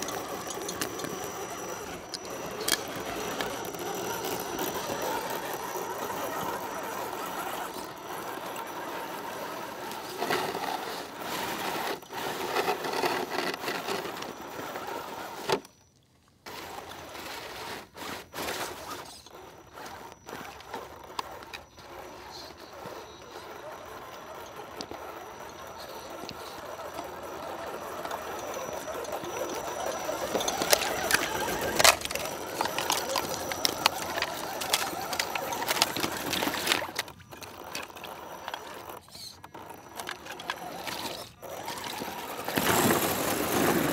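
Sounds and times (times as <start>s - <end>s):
toy truck motors whining: 0.0s - 43.9s.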